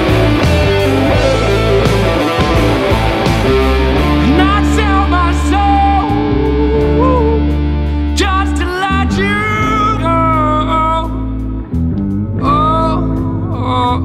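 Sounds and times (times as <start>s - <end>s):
electric guitar bent notes: 0.0s - 13.8s
bass notes: 0.0s - 14.0s.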